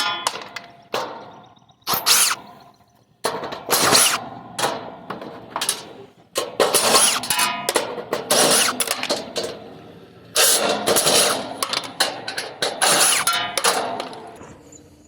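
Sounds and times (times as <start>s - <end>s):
sheet metal clattering and scraping: 0.0s - 2.6s, 3.2s - 14.6s.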